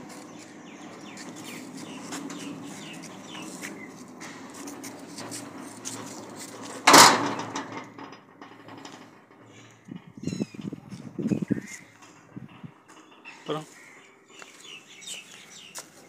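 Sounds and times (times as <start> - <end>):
sliding gate rumbling on track: 0.0 - 15.7
metal gate clanging: 0.6 - 15.0.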